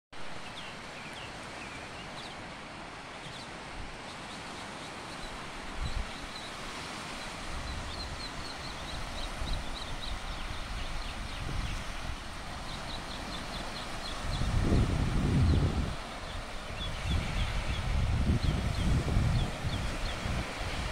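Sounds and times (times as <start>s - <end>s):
small waves washing on sand: 0.2s - 20.9s
birds chirping: 0.4s - 14.8s, 15.4s - 20.4s.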